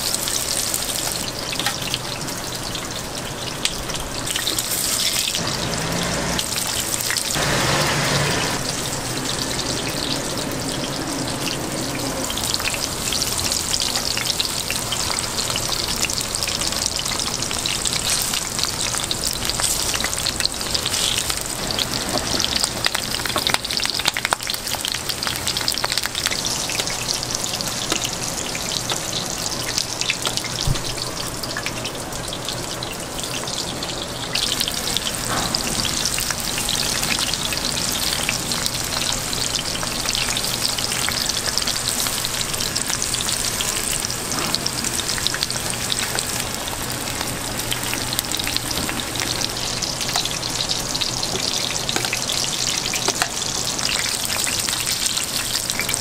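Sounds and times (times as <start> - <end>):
dumplings frying with sizzle and crackle: 0.0 - 56.0.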